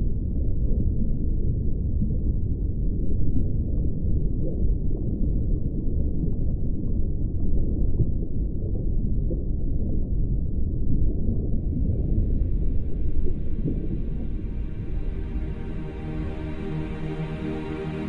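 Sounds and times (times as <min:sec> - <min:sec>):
deep steady rumble: 0:00.0 - 0:18.0.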